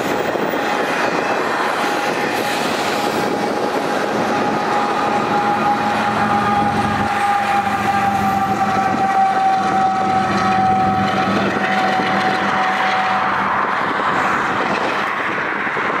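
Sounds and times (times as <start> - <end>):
diesel locomotive engine under load: 0.0 - 16.0
rushing noise: 0.0 - 16.0
steady high whine: 0.0 - 16.0.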